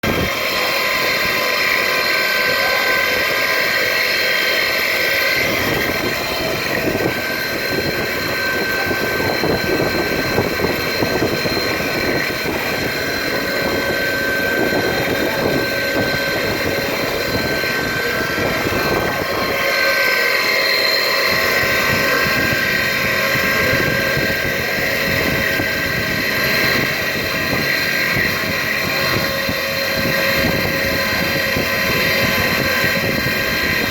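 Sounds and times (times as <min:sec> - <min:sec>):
milling spindle whine: 0:00.0 - 0:33.9
rough cutting noise: 0:00.0 - 0:33.9.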